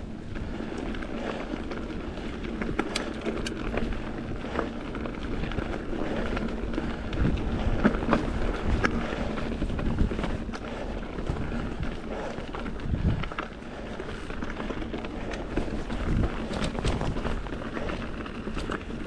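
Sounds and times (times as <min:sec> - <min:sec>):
bike tyres crunching on dirt: 0:00.0 - 0:19.0
wind on microphone: 0:02.0 - 0:19.0.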